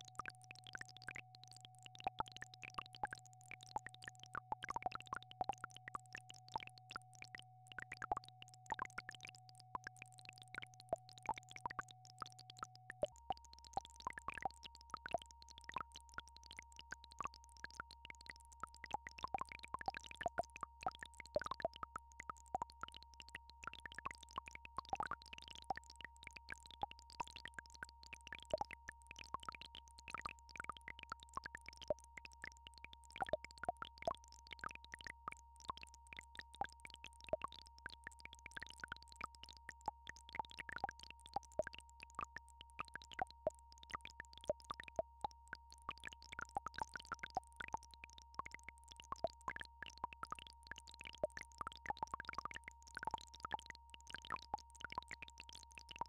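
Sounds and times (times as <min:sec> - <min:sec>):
soft plinks and clicks: 0:00.0 - 0:56.0.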